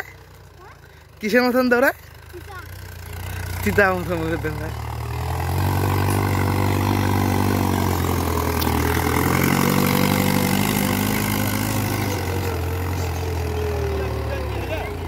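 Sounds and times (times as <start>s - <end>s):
tractor diesel engine under load: 0.0s - 15.0s
cultivator pulled through soil: 1.1s - 15.0s.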